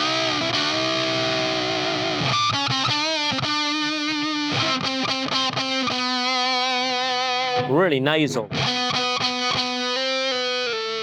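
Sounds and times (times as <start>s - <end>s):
fuzzed electric guitar notes: 0.0s - 11.0s.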